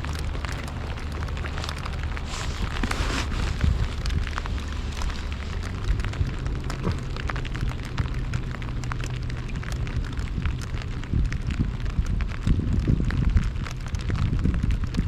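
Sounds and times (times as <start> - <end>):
raindrops hitting a kayak: 0.0 - 15.0
steady low rumble: 0.0 - 15.0.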